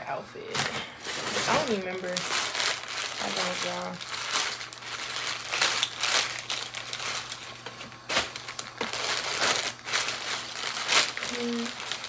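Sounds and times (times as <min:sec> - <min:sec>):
plastic bags crinkling: 0:00.5 - 0:12.0.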